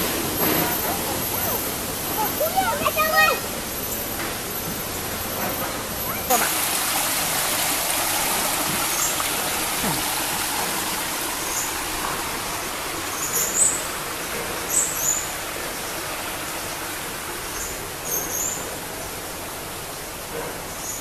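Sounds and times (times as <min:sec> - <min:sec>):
stream running over rocks: 0:00.0 - 0:21.0.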